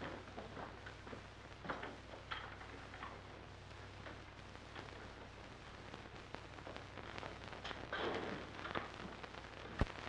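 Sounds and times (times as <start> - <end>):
film soundtrack crackle and clicks: 0.0 - 10.0
low hum and hiss: 0.0 - 10.0.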